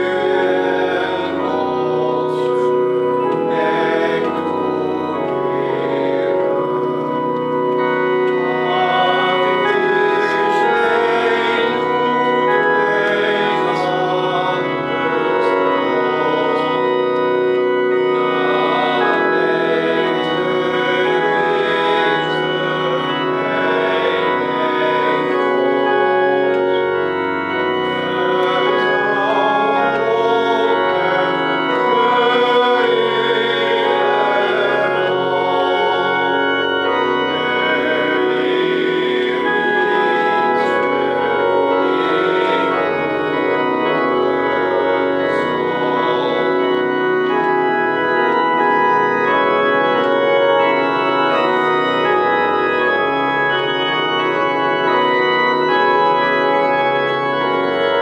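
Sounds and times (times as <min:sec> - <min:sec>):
organ playing sustained chords: 0:00.0 - 0:58.0.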